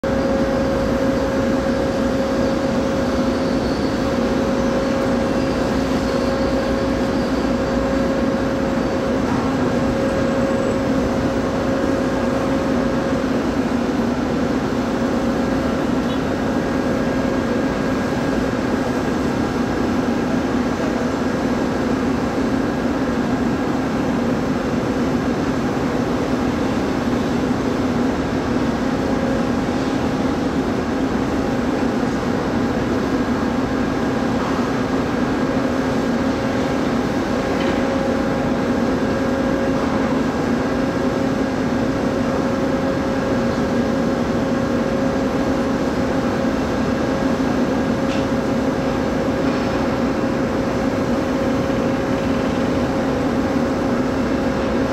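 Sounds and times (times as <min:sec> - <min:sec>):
machinery drone with low hum: 0:00.0 - 0:54.9.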